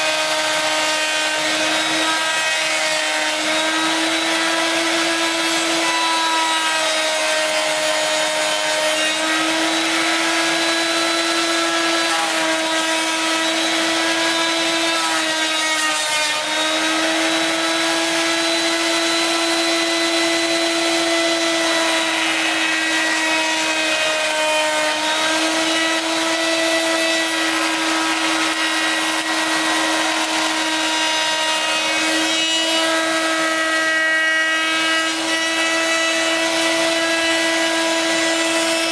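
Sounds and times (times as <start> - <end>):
router whining while cutting wood: 0.0 - 38.9.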